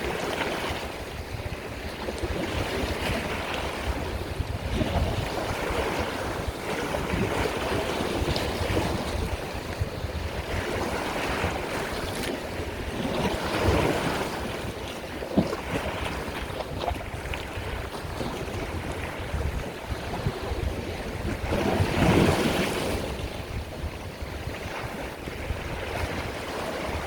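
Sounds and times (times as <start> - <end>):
low rumble of waves: 0.0 - 27.0
sea surf rushing: 0.0 - 27.0.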